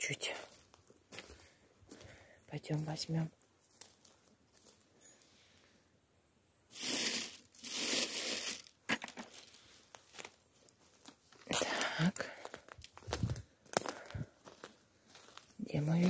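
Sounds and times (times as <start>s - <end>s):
footsteps crunching on forest litter: 0.2s - 5.3s, 7.1s - 16.0s.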